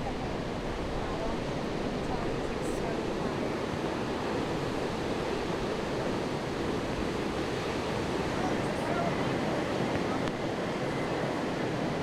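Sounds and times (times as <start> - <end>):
surf breaking and washing ashore: 0.0 - 12.0.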